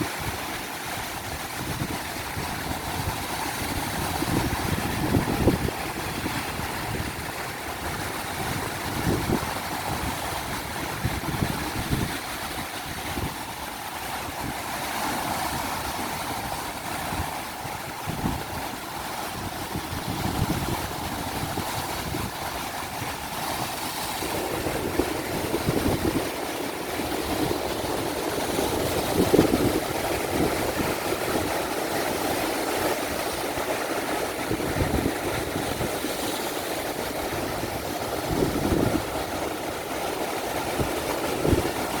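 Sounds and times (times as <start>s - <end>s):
surf washing on beach: 0.0s - 42.0s
wind gusts on microphone: 0.0s - 42.0s.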